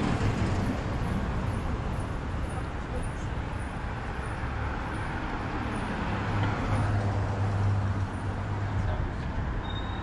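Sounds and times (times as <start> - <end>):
vehicle engine hum: 0.0 - 9.7
road noise from passing cars: 0.0 - 10.0.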